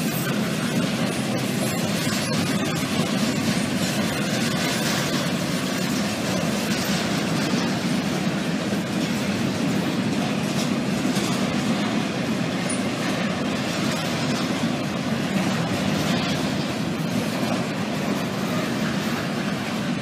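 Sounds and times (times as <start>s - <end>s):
steel wheels rumbling on rails: 0.0s - 20.0s.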